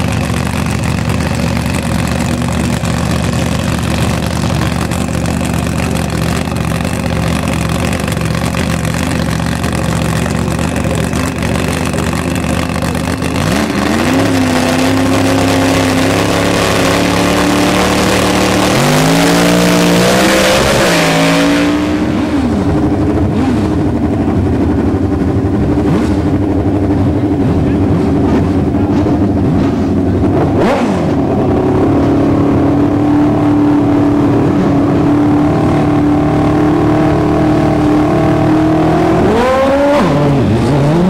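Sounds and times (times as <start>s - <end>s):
motorcycles idling and blipping throttles: 0.0s - 19.0s, 22.1s - 36.0s
drag car engine idling and revving: 0.0s - 41.0s.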